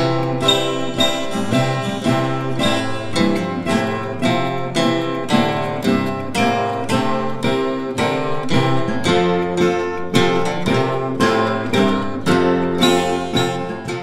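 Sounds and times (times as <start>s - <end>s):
acoustic guitar string band: 0.0s - 14.0s.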